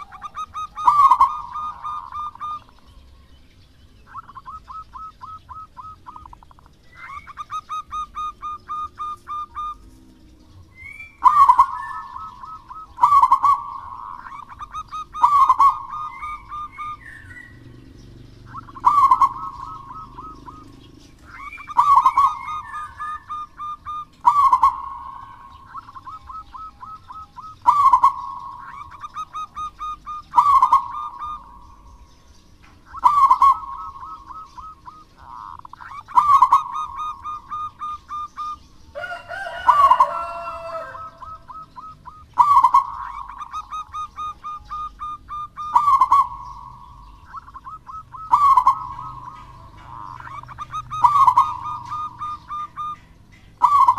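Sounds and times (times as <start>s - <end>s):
dove cooing: 0.0s - 2.9s, 4.0s - 10.0s, 10.6s - 32.0s, 32.7s - 53.9s
rough bird call: 10.7s - 53.9s.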